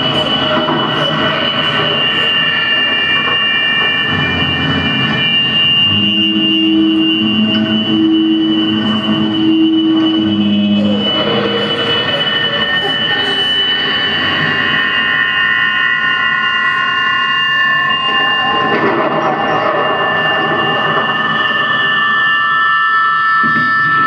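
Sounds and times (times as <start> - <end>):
dense noisy drone: 0.0 - 24.0
steady high synthesizer tones: 0.0 - 24.0.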